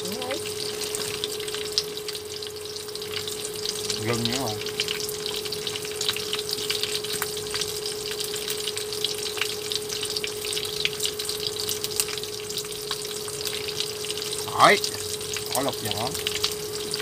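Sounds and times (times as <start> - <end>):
cooktop electrical hum: 0.0 - 17.0
food sizzling in oil: 0.0 - 17.0
oil crackling and popping: 0.0 - 17.0.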